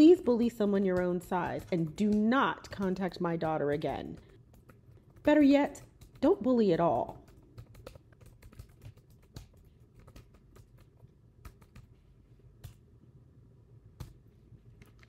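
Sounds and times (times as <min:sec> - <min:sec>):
laptop keyboard typing: 0:00.0 - 0:12.0, 0:12.6 - 0:12.8, 0:13.9 - 0:15.0.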